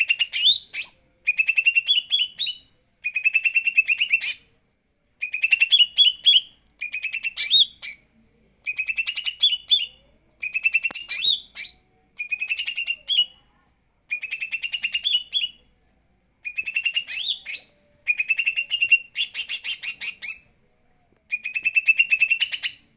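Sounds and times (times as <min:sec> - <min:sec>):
bird singing chirping phrases: 0:00.0 - 0:04.6, 0:05.2 - 0:13.5, 0:14.1 - 0:15.7, 0:16.4 - 0:20.6, 0:21.3 - 0:22.9.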